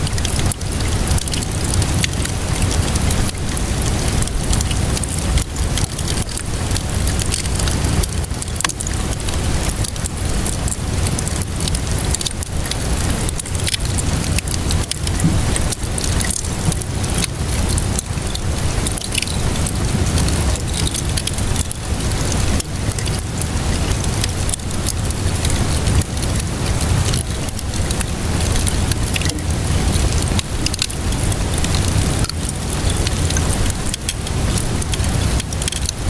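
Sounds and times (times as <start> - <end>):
low continuous rumble: 0.0 - 36.0
rainfall hiss: 0.0 - 36.0
wood fire crackling: 0.0 - 36.0.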